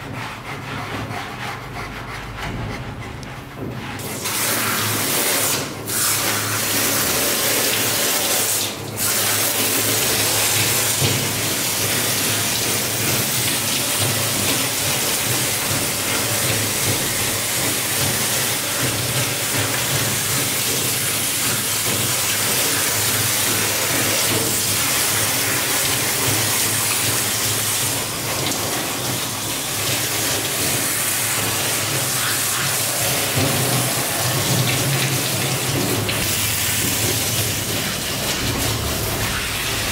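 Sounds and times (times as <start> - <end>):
shower sprayer hissing and splashing: 3.6 - 39.9.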